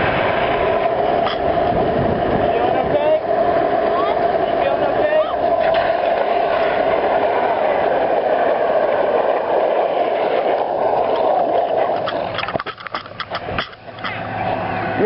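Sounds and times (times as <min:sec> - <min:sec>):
knocks and scrapes of longboard: 0:00.0 - 0:14.5
longboard wheels rolling on pavement: 0:00.0 - 0:15.0.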